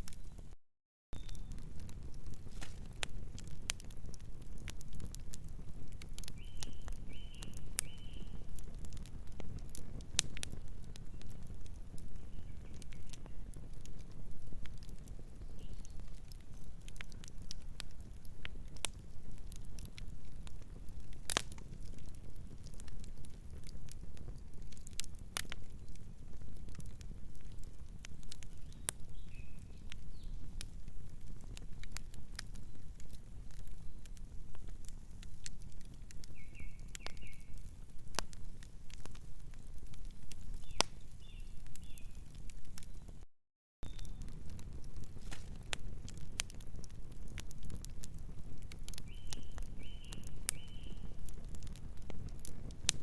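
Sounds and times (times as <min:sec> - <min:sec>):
fire crackling and popping: 0:00.0 - 0:00.6, 0:01.2 - 0:43.2, 0:43.8 - 0:53.0
rumble of flames: 0:01.2 - 0:43.2, 0:43.8 - 0:53.0.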